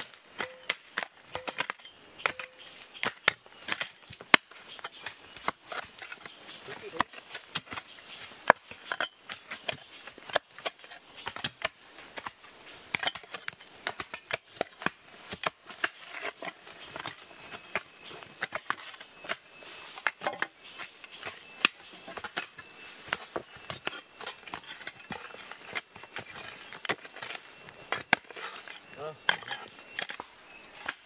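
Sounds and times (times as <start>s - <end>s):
hoe chopping stony soil: 0.0s - 31.0s.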